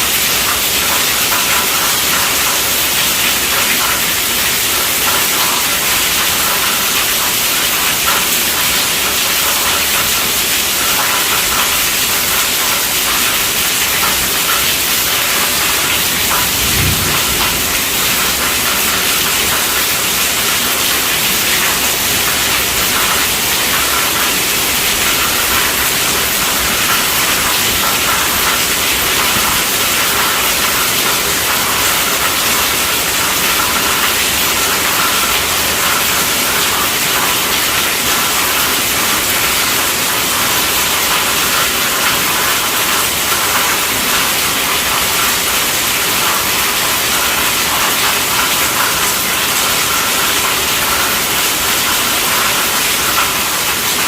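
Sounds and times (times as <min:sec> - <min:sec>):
heavy rain on a tent roof: 0:00.0 - 0:54.0.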